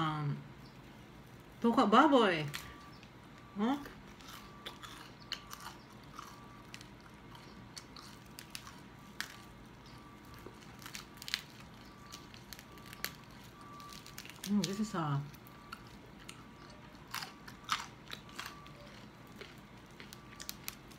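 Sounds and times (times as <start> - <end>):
crispy pork skin crunching: 2.4 - 20.9.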